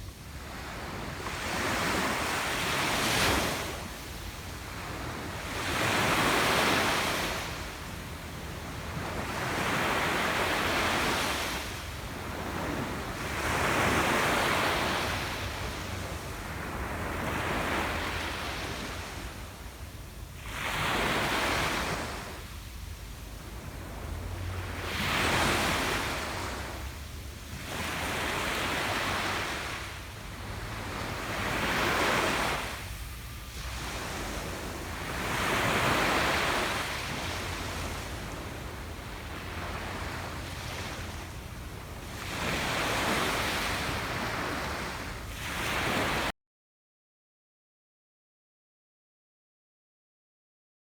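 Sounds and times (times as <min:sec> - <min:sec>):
ocean waves breaking on beach: 0:00.0 - 0:46.3.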